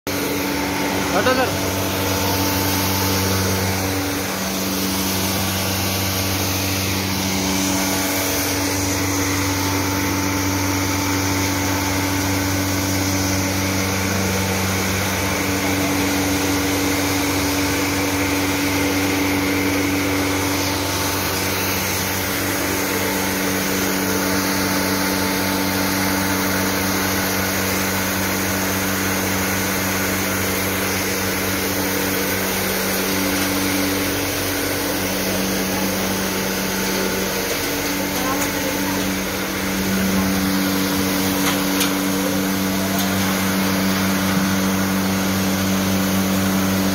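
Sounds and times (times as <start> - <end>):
blower fan rushing air: 0.1 - 46.9
electric motor hum: 0.1 - 46.9.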